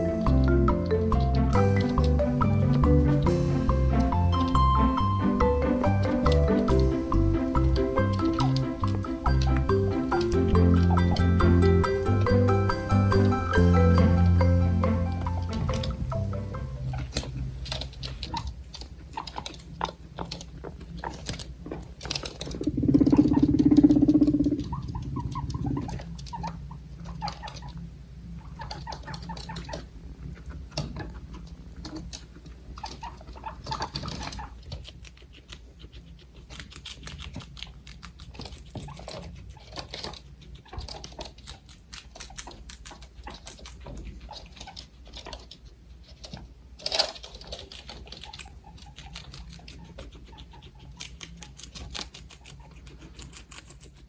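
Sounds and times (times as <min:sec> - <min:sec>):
guinea pigs nibbling and rustling: 0:00.0 - 0:54.0.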